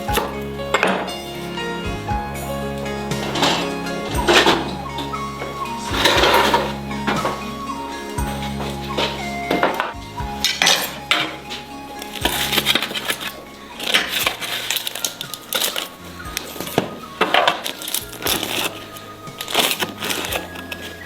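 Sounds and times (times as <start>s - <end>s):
background music with bass line: 0.0s - 21.0s.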